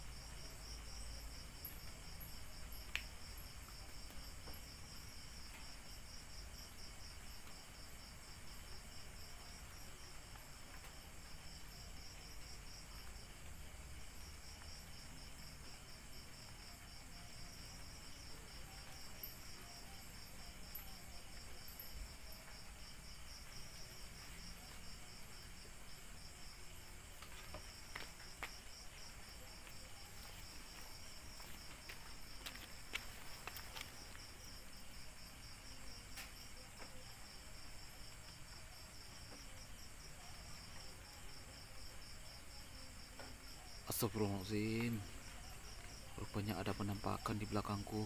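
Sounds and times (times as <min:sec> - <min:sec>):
night insects chirping: 0:00.0 - 0:48.0.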